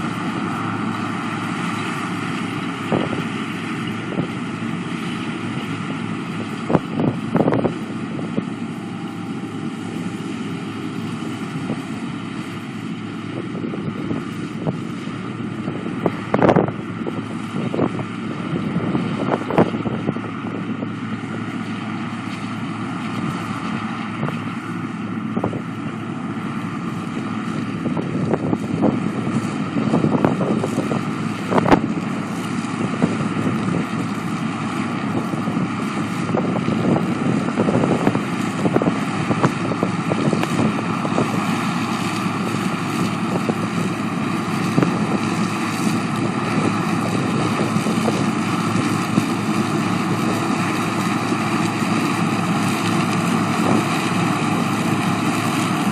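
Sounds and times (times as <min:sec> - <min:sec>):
combine harvester running: 0:00.0 - 0:55.9
wind buffeting microphone: 0:00.0 - 0:55.9.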